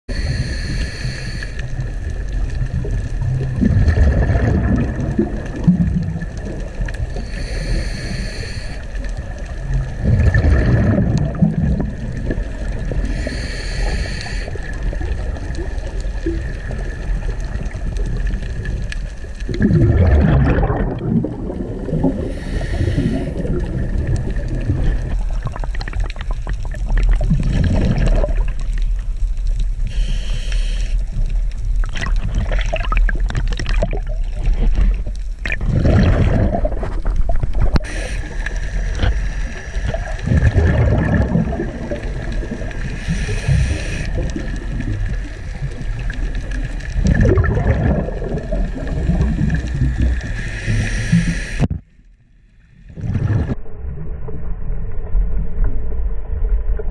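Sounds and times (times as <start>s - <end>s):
muffled water sloshing: 1.7s - 7.3s, 14.8s - 29.8s, 31.2s - 52.1s, 52.8s - 56.9s.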